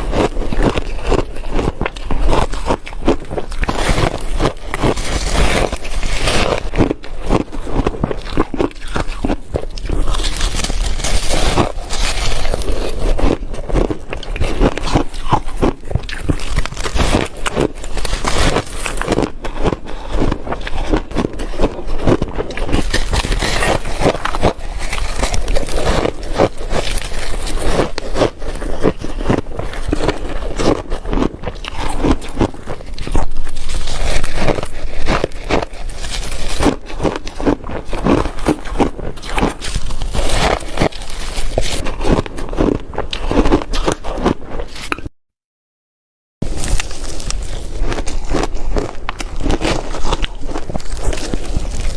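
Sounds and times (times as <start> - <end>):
person chewing ice: 0.0 - 45.1, 46.4 - 51.9.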